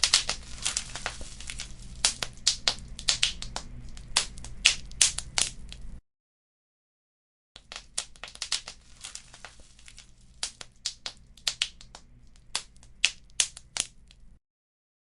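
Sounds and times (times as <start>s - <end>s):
wood fire crackling: 0.0s - 6.0s, 7.6s - 14.4s.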